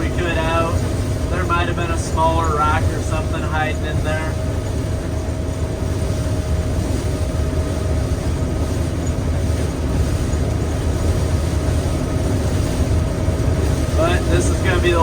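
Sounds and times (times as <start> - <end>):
combine harvester running: 0.0 - 15.0
thin mechanical whine: 0.0 - 15.0.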